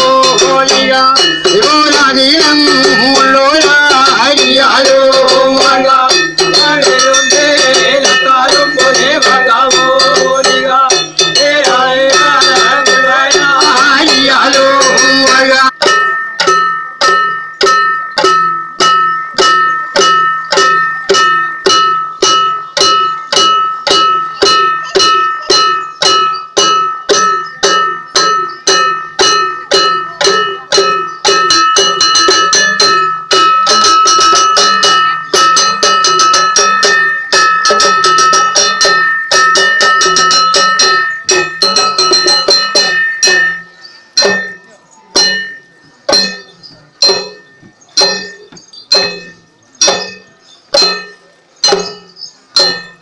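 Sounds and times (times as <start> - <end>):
struck metal percussion ringing: 0.0 - 53.0.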